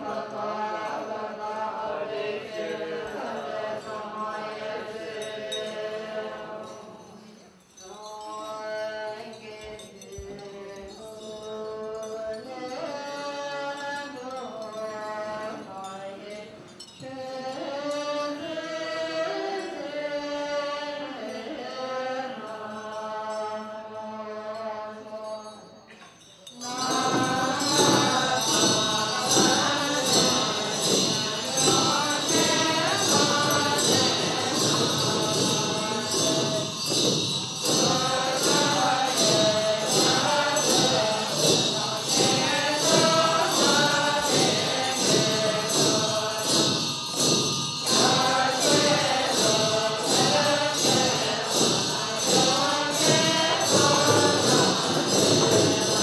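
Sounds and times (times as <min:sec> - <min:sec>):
fast percussion: 0:00.0 - 0:19.8, 0:25.3 - 0:56.0
melodic devotional chanting: 0:00.0 - 0:56.0.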